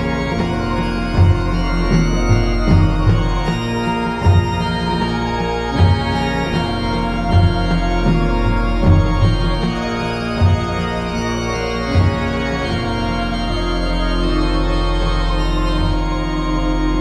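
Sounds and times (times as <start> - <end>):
sustained chords: 0.0 - 17.0.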